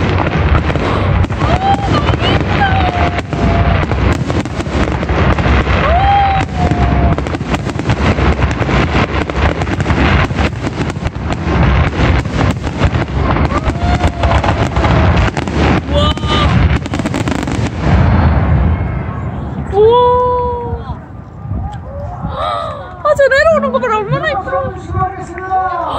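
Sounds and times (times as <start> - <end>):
fireworks bursting and crackling: 0.0 - 25.9.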